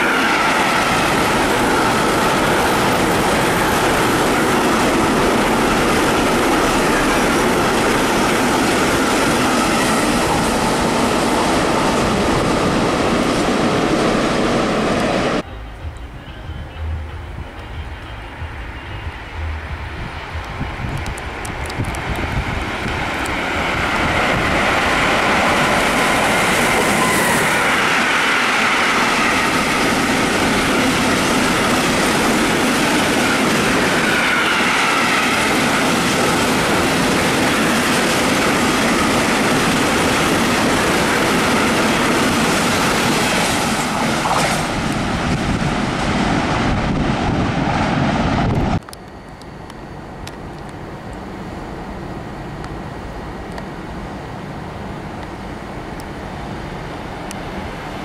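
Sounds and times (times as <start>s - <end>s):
freight train wagons rumbling: 0.0s - 58.0s.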